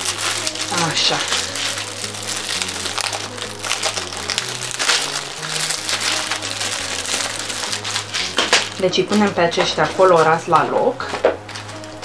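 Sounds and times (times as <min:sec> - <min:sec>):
plastic bags crinkling: 0:00.0 - 0:12.0
soft background music: 0:00.0 - 0:12.0.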